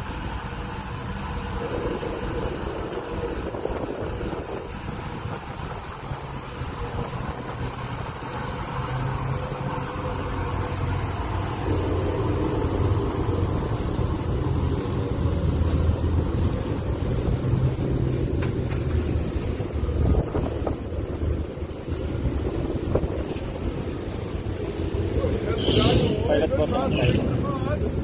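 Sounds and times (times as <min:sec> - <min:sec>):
boat engines rumbling: 0:00.0 - 0:28.0
rushing water: 0:00.0 - 0:28.0.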